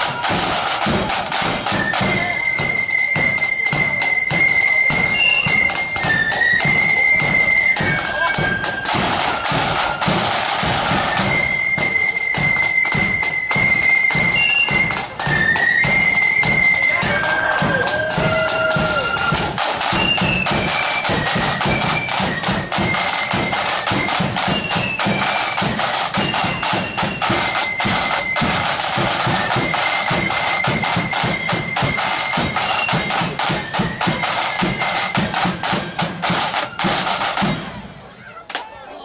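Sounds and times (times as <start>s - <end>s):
rapid dense drumming: 0.0s - 38.1s
high flute melody: 0.0s - 39.0s.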